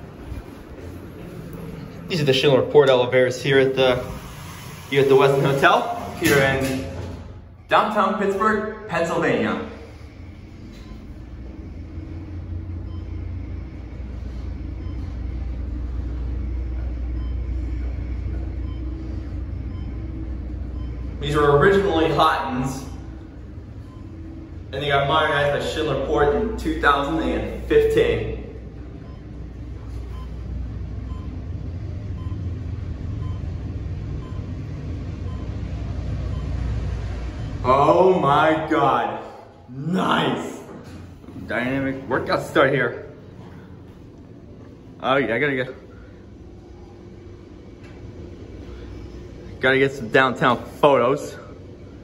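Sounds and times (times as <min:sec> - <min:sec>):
elevator rumble: 0:00.0 - 0:52.0.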